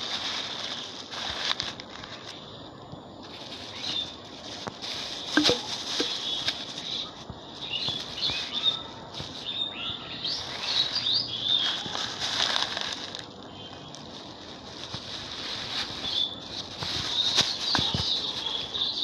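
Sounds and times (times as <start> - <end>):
rustling: 0.0 - 19.0
small birds chirping: 2.1 - 12.3, 13.0 - 19.0.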